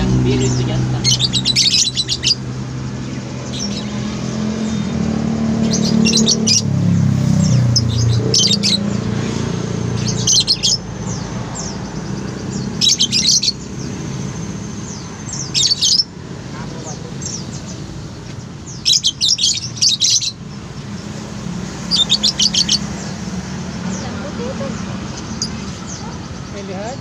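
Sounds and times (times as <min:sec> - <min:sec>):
lovebirds chirping: 0:00.0 - 0:27.0.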